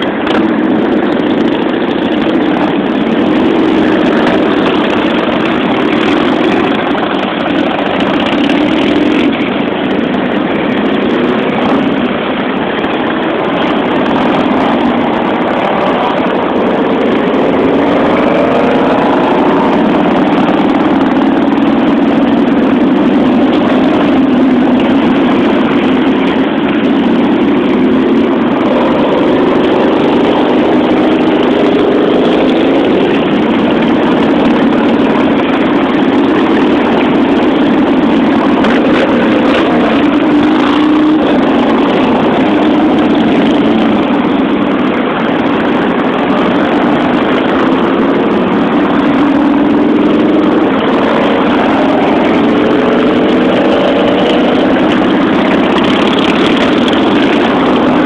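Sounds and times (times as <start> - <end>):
motorcycles riding past: 0.0 - 58.0.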